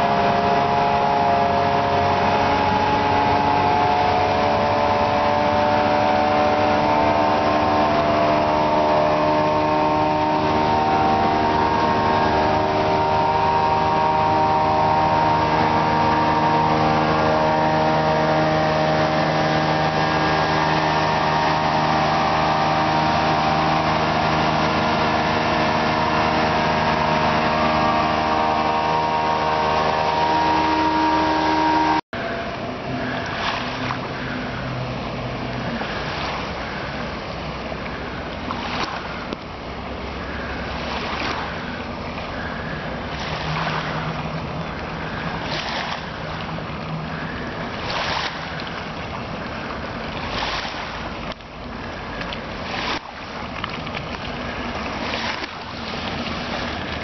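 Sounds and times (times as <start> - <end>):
faint engine hum: 0.0 - 57.0
outboard motor running: 0.0 - 57.0
rushing wake and hull noise: 0.0 - 57.0
water noise: 0.0 - 57.0.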